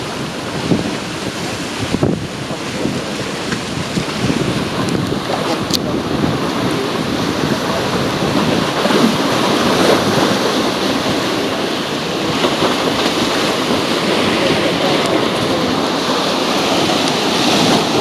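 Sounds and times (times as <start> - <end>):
sea water washing: 0.0 - 18.0
wind buffeting microphone: 0.0 - 18.0.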